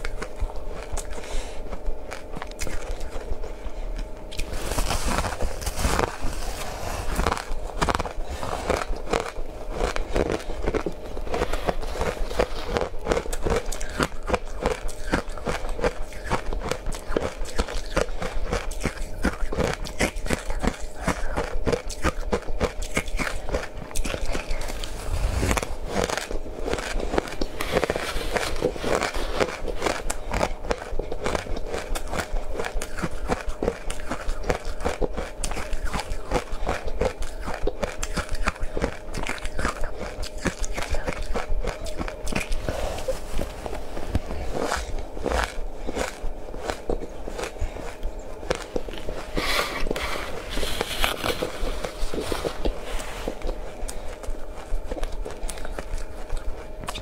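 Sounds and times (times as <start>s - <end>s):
crunching and chewing ice: 0.0s - 57.0s.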